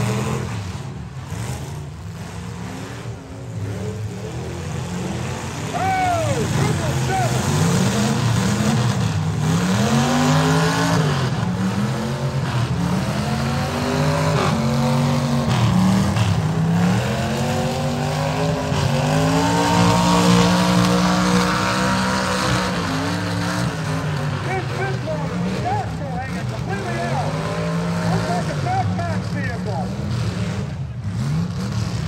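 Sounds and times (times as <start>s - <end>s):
arena noise: 0.0s - 32.0s
car engines revving: 0.0s - 32.0s.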